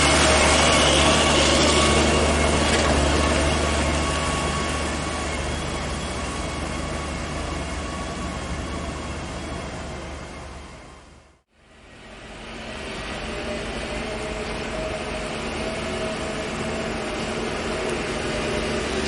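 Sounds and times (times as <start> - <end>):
heavy truck running: 0.0 - 19.0.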